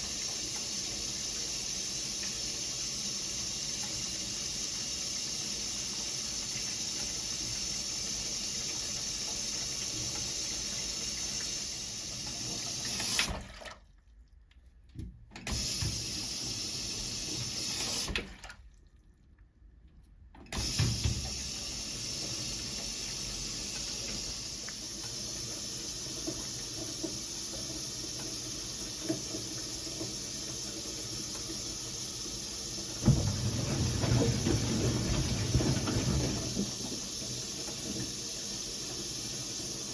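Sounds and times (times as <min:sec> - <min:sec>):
water filling washing machine: 0:00.0 - 0:39.9.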